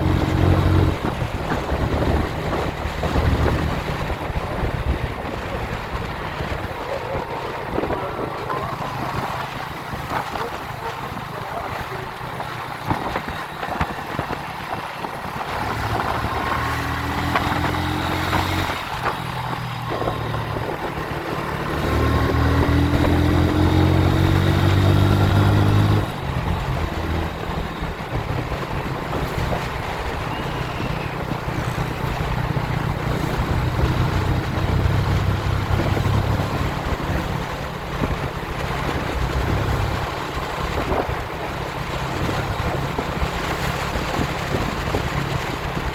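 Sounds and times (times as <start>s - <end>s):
motorcycle engine running: 0.0s - 45.9s
wind rushing over microphone: 0.0s - 45.9s.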